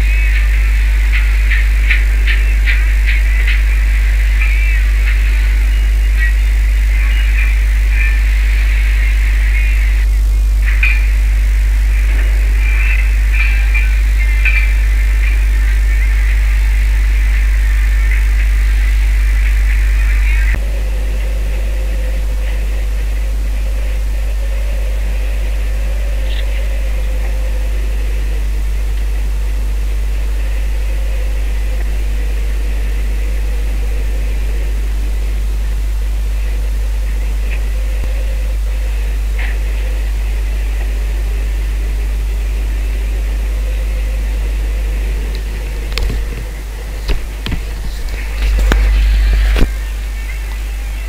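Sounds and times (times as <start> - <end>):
boat engine drone: 0.0 - 51.0.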